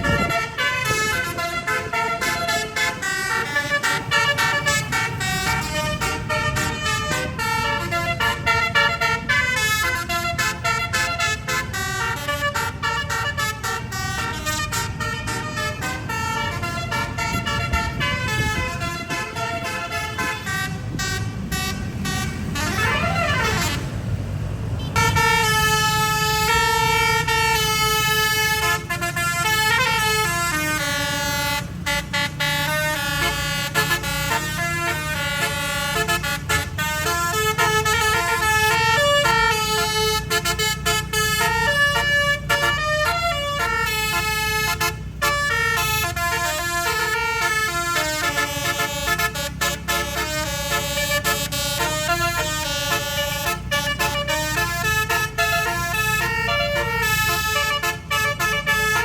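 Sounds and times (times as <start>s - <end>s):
bus air horn playing a tune: 0.0s - 24.1s, 24.8s - 59.0s
low vehicle rumble: 0.0s - 59.0s.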